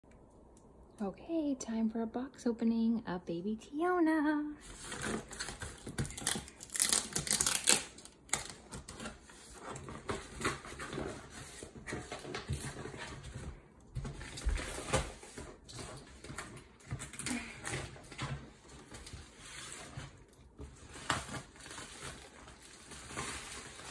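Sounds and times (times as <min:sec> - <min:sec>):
packaging rustling and crackling: 0:04.6 - 0:23.9.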